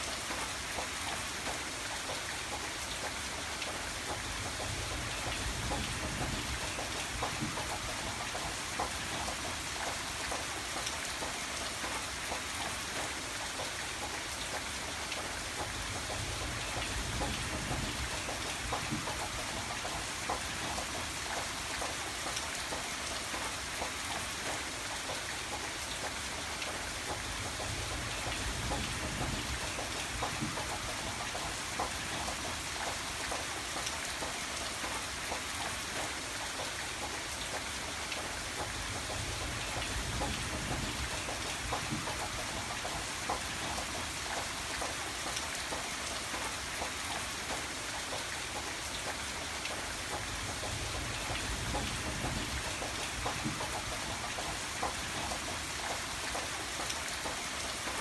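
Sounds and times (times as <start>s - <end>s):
rain drops ticking: 0.0s - 58.0s.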